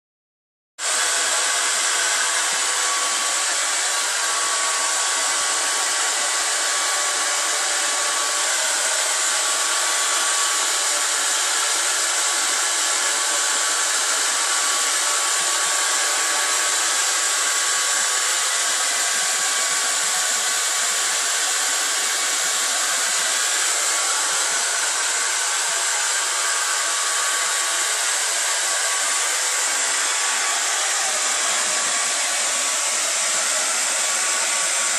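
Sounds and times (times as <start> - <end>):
hair dryer running: 0.8 - 34.9.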